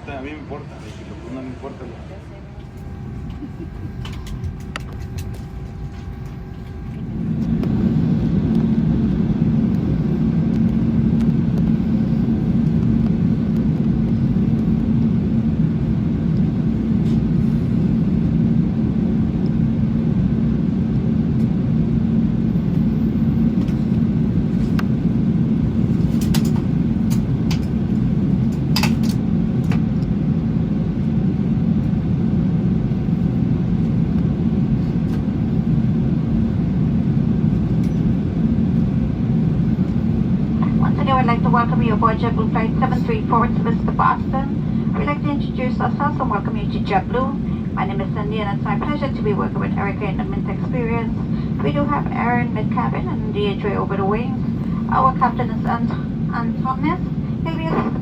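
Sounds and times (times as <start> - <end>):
airliner cabin noise: 0.0 - 58.0.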